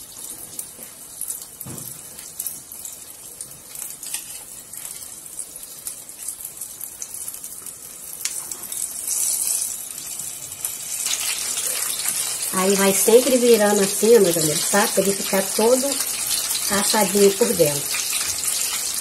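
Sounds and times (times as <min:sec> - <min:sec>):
batter sizzling in oil: 0:00.0 - 0:19.0.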